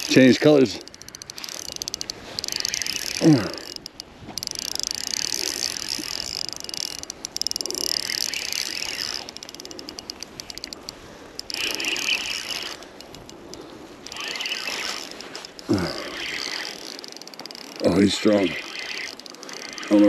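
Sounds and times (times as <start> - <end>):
fishing reel ticking: 0.0 - 20.0.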